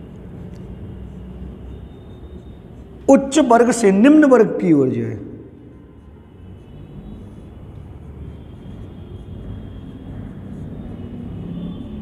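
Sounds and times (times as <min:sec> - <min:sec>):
faint hum: 0:00.1 - 0:10.9.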